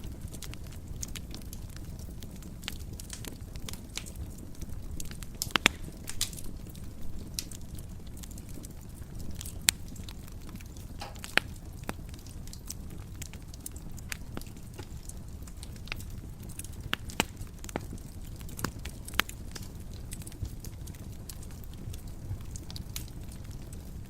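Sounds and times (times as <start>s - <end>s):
low rumble of flame: 0.0s - 24.0s
wood fire crackling: 0.0s - 24.0s.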